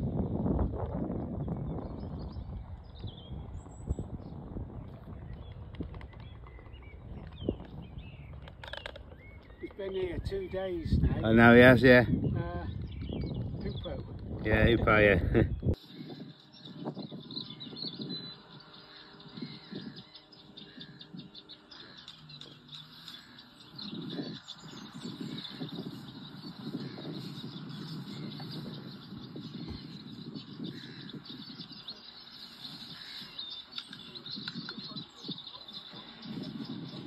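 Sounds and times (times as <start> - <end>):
songbird chirping and singing: 1.2 - 37.0.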